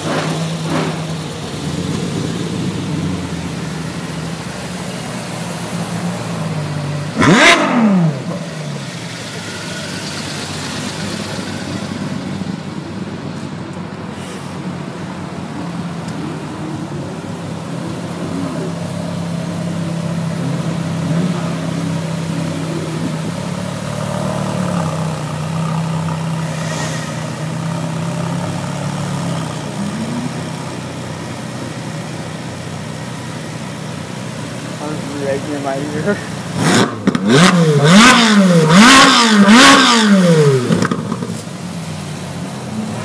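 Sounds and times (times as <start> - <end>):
sports car engines droning: 0.0 - 43.0.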